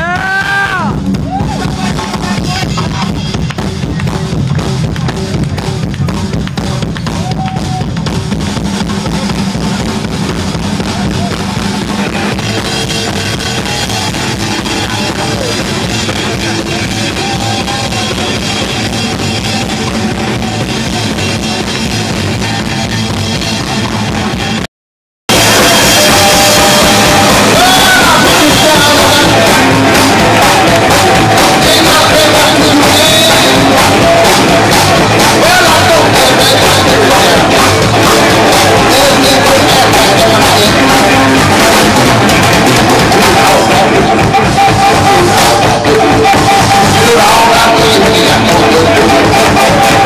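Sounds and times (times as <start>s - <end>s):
live rock band playing: 0.0s - 24.7s, 25.3s - 50.0s.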